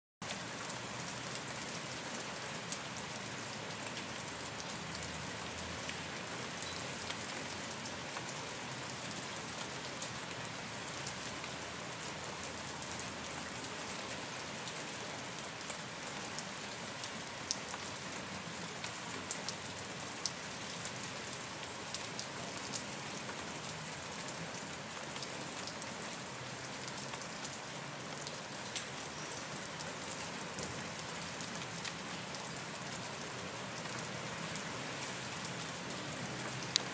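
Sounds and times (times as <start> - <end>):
raindrops ticking close by: 0.2 - 36.9
steady rain hissing: 0.2 - 36.9.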